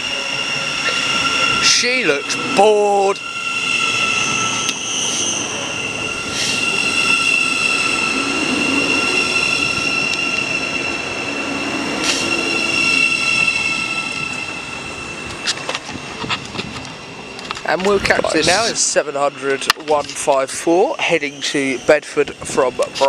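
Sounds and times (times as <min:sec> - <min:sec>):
train squealing whine: 0:00.0 - 0:23.0
train wheels on rails: 0:00.0 - 0:23.0.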